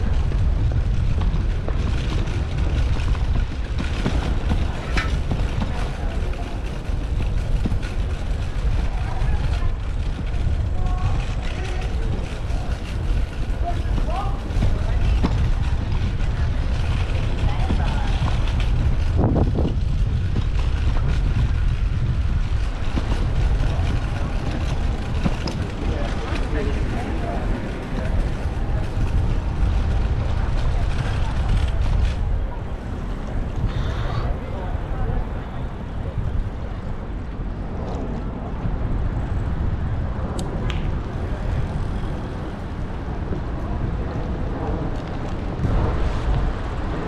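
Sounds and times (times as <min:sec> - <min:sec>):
road noise: 0:00.0 - 0:47.0
wind rumbling on microphone: 0:00.0 - 0:47.0.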